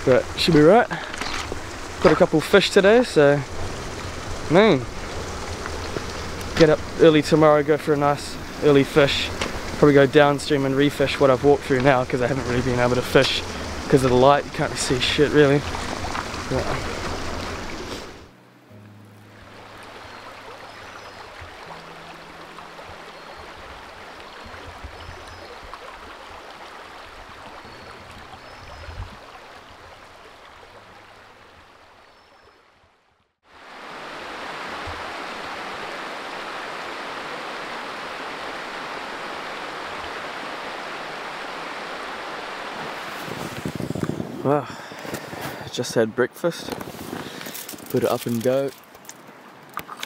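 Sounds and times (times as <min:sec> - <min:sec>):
river water rushing: 0:00.0 - 0:32.5, 0:33.4 - 0:45.7.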